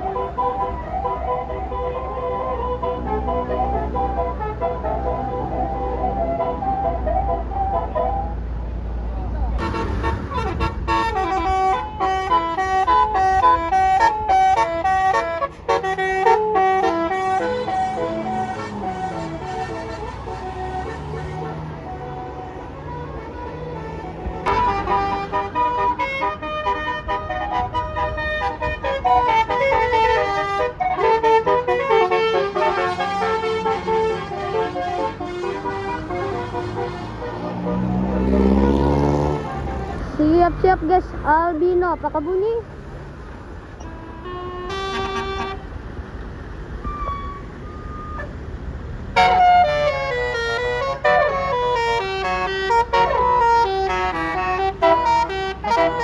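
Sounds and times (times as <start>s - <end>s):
bus air horn melody: 0.0s - 8.3s, 9.6s - 40.6s, 43.7s - 46.0s, 46.7s - 48.4s, 49.1s - 56.0s
vehicle engine humming: 0.0s - 56.0s.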